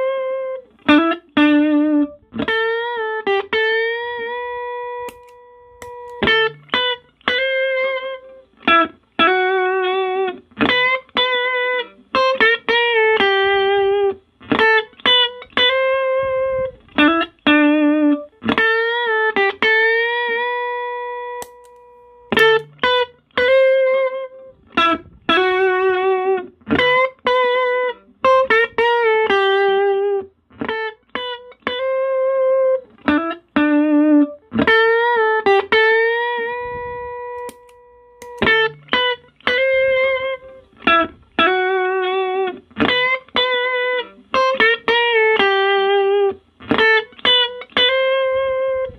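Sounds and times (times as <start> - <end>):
electric guitar melody: 0.0 - 48.9.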